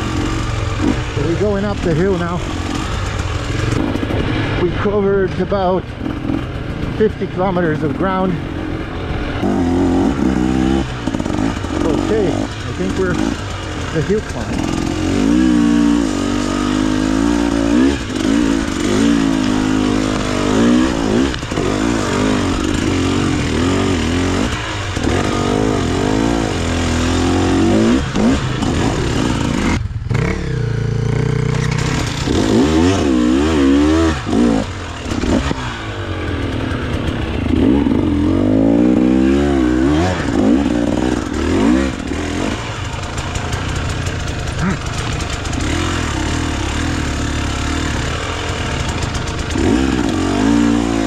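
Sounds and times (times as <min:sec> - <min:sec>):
two-stroke engine revving: 0:00.0 - 0:51.0.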